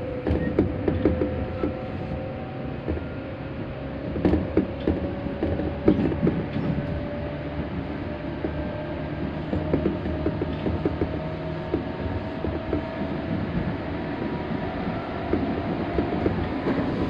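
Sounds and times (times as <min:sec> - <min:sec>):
creaks and knocks of train car: 0:00.0 - 0:17.0
train rumbling: 0:00.0 - 0:17.0.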